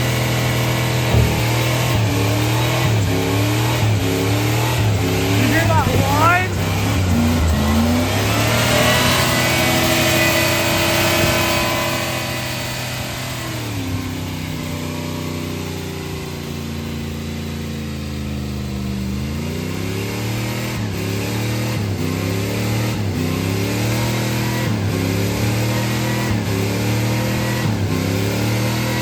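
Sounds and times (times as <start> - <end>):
pickup engine revving: 0.0 - 29.0
turbocharger whine: 0.0 - 29.0.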